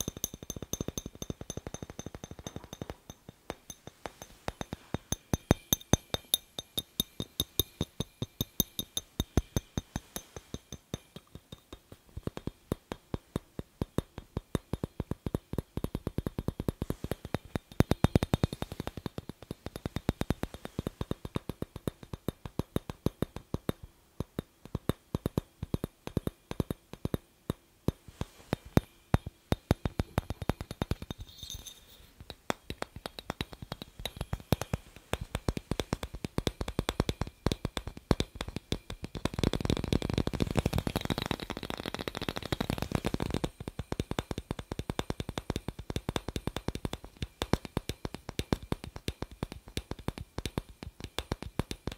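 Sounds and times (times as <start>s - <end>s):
fingers tapping on glass bulb: 0.0s - 51.9s.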